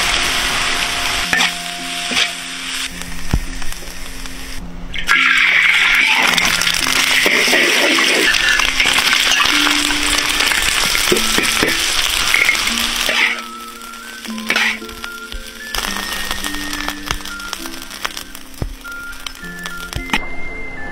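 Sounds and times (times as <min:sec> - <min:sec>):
rice sizzling in hot oil: 0:00.0 - 0:20.2
background music: 0:00.0 - 0:20.9.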